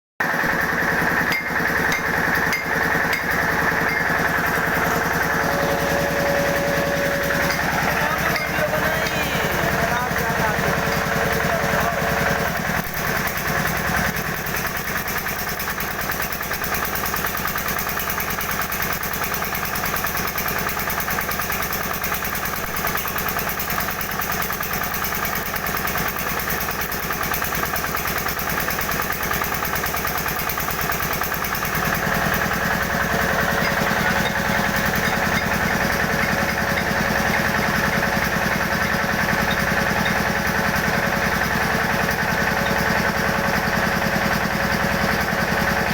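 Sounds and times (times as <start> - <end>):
engine running steadily: 0.2 - 45.9.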